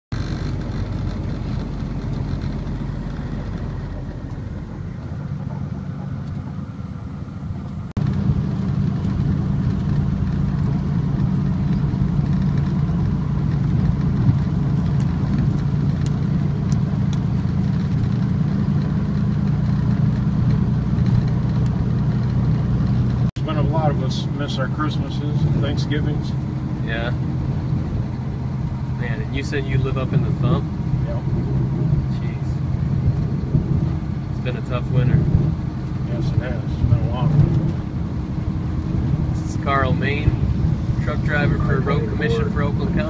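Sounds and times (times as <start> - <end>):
truck engine drone from cab: 0.1 - 43.0.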